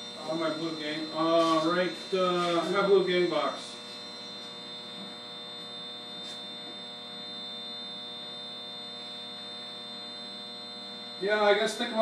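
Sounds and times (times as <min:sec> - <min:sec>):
electrical hum: 0:00.0 - 0:12.0
high-pitched whine: 0:00.0 - 0:12.0.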